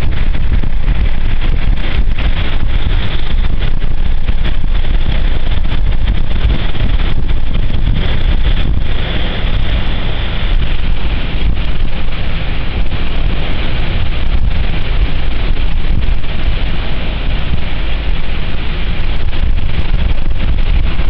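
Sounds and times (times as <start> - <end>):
rough sea breaking against wall: 0.0 - 21.0
wind buffeting microphone: 0.0 - 21.0.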